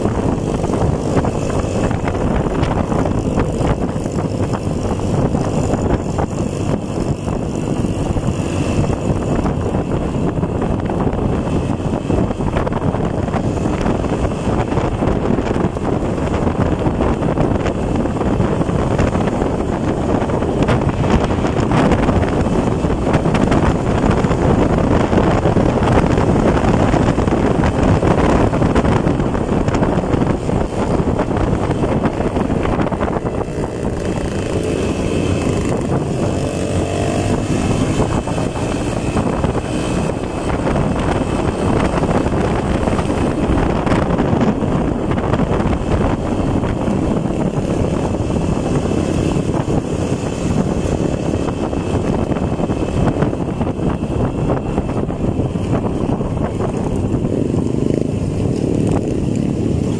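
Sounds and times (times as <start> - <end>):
motorcycle engine running: 0.0 - 59.9
wind rushing on microphone: 0.0 - 59.9.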